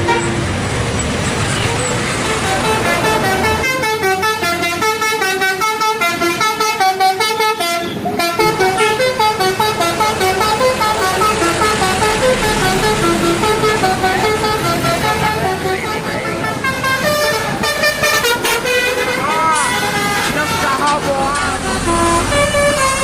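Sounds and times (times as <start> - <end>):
bus air horns playing a tune: 0.0 - 0.4, 1.8 - 23.0.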